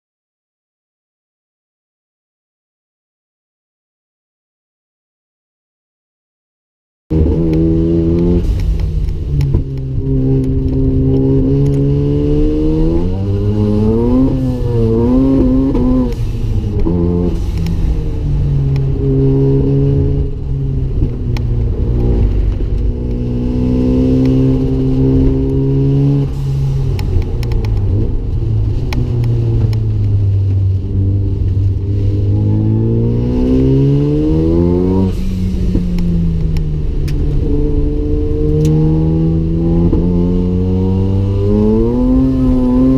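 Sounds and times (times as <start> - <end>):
car engine accelerating hard: 7.1 - 42.9.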